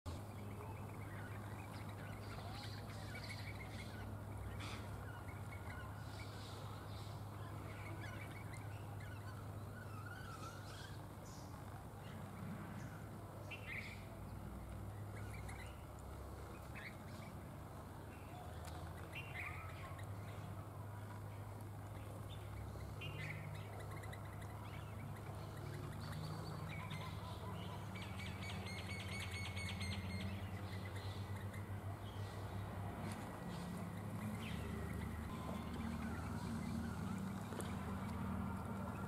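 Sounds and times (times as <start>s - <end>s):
small birds chirping: 0.1s - 39.0s.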